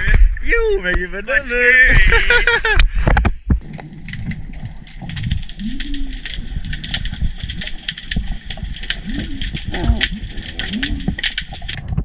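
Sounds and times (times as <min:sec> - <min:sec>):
crackle of small clicks: 0:01.9 - 0:12.0.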